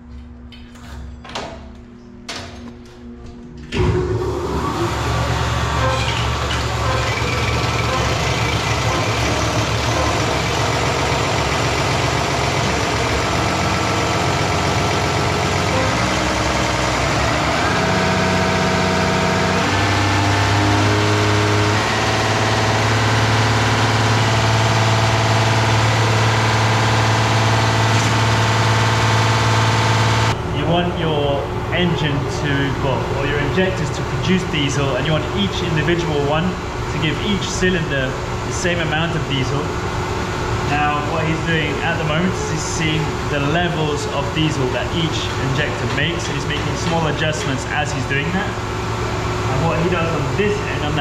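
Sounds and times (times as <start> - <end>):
test bench machine hum: 0.0 - 51.0.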